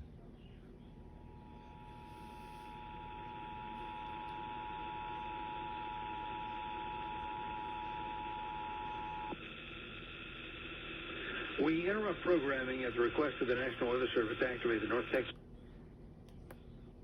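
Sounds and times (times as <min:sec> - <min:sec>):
broadcast hiss: 0:01.5 - 0:15.4.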